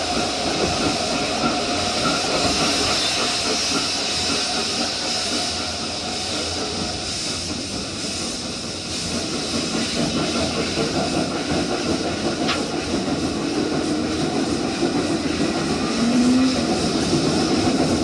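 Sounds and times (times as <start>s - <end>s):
steam hiss: 0.0s - 18.0s
steam train rumbling: 0.0s - 18.0s.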